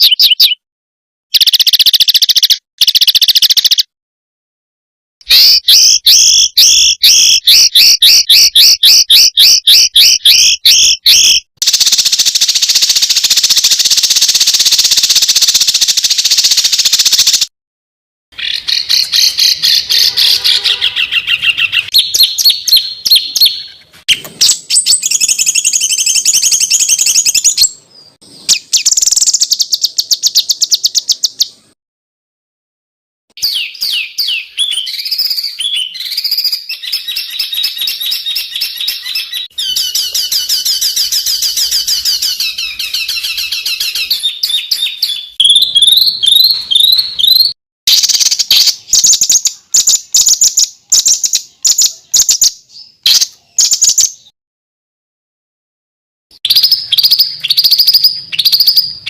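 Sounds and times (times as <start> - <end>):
songbird chattering and trilling: 0.0 - 0.6, 1.3 - 3.9, 5.2 - 17.5, 18.4 - 31.8, 33.4 - 54.3, 56.4 - 59.0.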